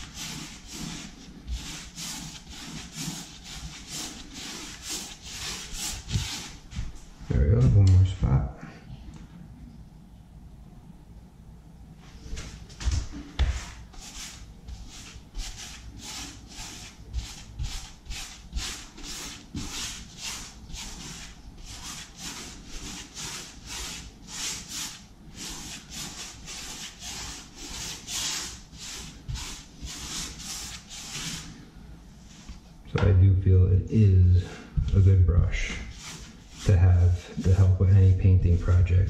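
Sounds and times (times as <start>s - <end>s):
paintbrush brushing on wall: 0.0s - 7.7s, 12.2s - 32.7s, 34.0s - 39.0s.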